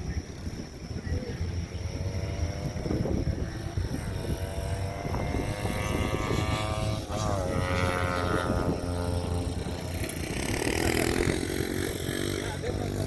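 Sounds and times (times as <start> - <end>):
racing motorcycle engines accelerating: 0.0 - 13.0.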